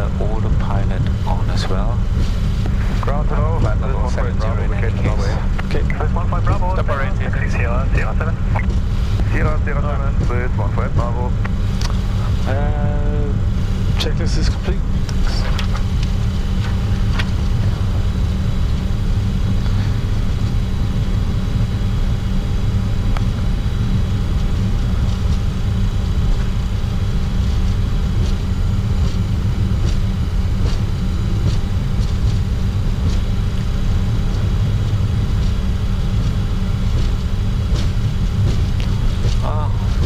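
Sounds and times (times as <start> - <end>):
jet cockpit low rumble: 0.0 - 40.0.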